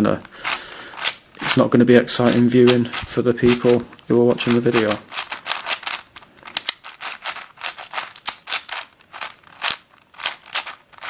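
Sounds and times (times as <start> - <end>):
plastic puzzle clicking: 0.4 - 1.6, 2.2 - 11.0.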